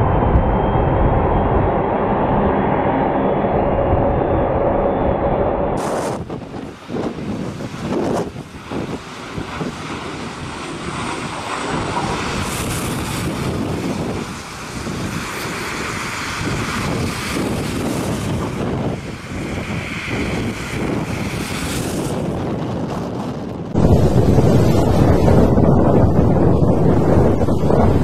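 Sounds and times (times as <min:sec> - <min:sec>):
jet engine roar: 0:00.0 - 0:28.0
wind buffeting microphone: 0:00.0 - 0:28.0.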